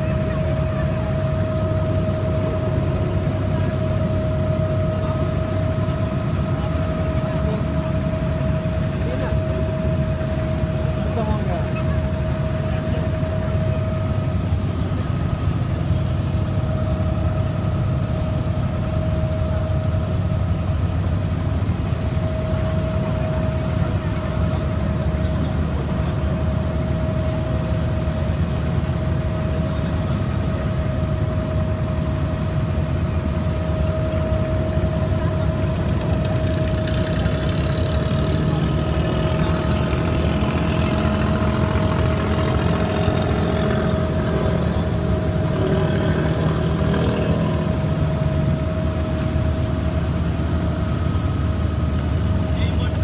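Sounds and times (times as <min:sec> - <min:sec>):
boat diesel engine rumbling: 0:00.0 - 0:53.0.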